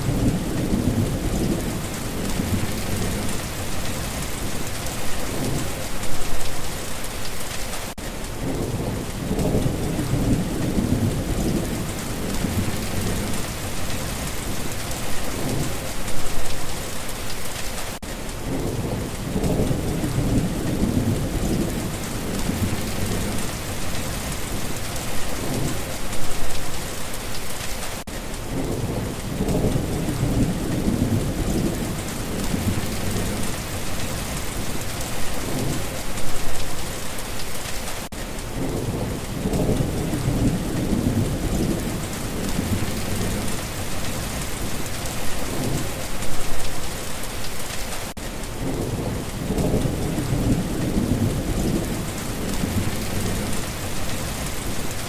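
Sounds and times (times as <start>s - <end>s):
low thunder rumbling: 0.0s - 6.0s, 8.4s - 16.7s, 18.4s - 26.5s, 28.5s - 36.6s, 38.5s - 46.6s, 48.6s - 55.0s
rain pattering: 0.0s - 55.0s.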